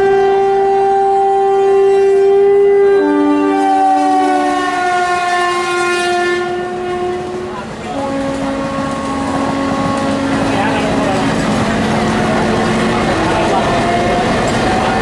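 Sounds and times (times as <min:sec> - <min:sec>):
locomotive two-tone horn: 0:00.0 - 0:15.0.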